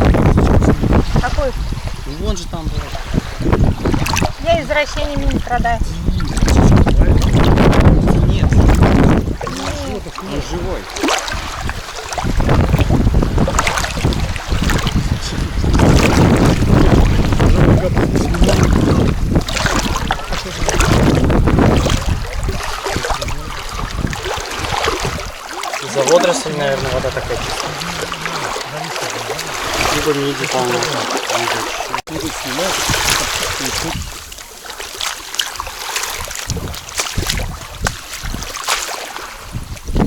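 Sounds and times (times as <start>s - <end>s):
wind buffeting microphone: 0.0s - 38.6s, 39.2s - 40.0s
sea water sloshing and lapping: 0.0s - 40.0s.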